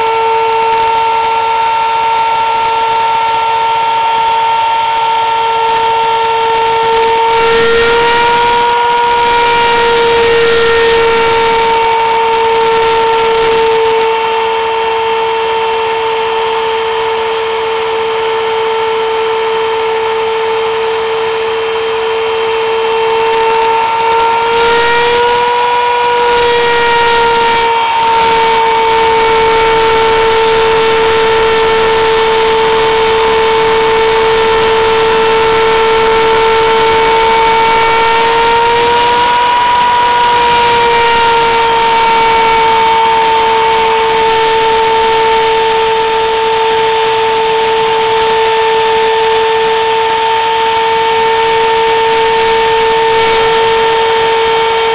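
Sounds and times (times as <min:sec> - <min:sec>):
router spindle whining: 0:00.0 - 0:54.9.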